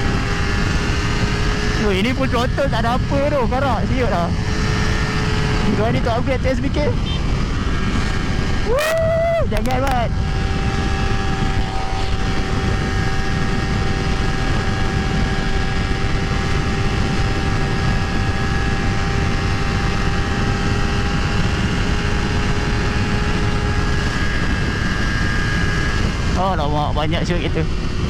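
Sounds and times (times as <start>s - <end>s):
motorcycle engine at high revs: 0.0s - 28.0s
wind rush on microphone: 0.0s - 28.0s.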